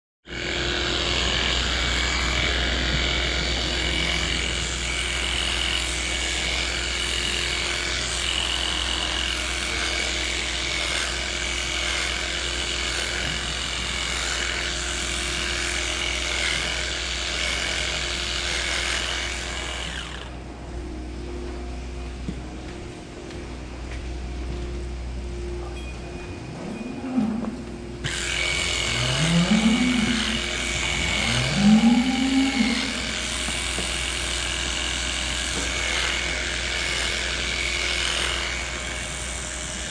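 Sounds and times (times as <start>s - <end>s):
electric clippers buzzing: 0.3s - 20.4s, 28.0s - 39.9s
steady low hum: 0.3s - 39.9s.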